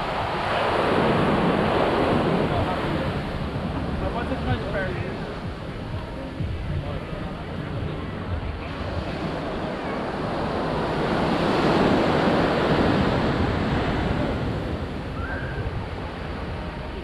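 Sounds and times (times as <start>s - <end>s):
sea surf breaking on beach: 0.0s - 5.9s, 8.6s - 17.0s
wind on microphone: 0.0s - 17.0s.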